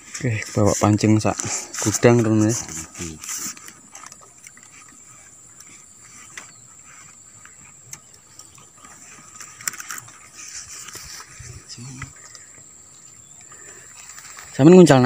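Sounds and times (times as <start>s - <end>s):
faint rustling: 0.0s - 15.0s
fishing gear clicking: 0.4s - 14.6s.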